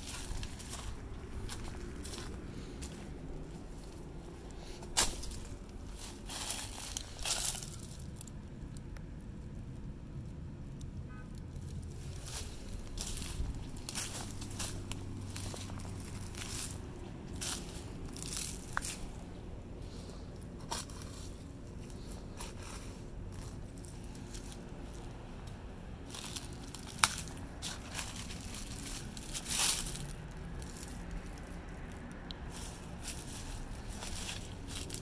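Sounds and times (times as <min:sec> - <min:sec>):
brush rustling: 0:00.0 - 0:08.3, 0:11.7 - 0:35.0
footsteps crunching on dry leaves: 0:00.0 - 0:08.3, 0:11.6 - 0:35.0.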